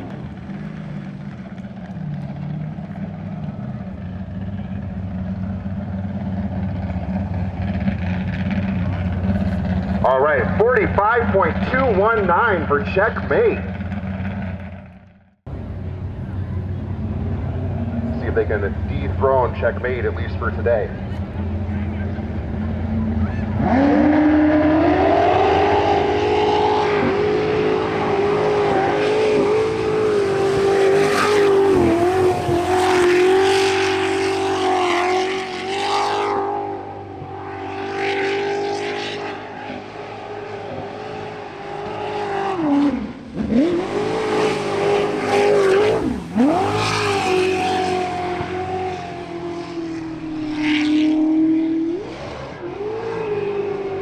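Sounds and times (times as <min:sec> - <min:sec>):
jet boat engine racing: 0:00.0 - 0:14.2, 0:15.5 - 0:54.0.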